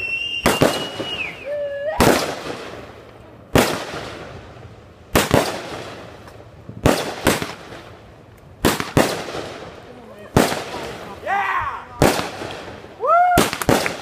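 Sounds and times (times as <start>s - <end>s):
fireworks bangs with echo: 0.4s - 8.0s, 8.6s - 11.2s, 12.0s - 14.0s.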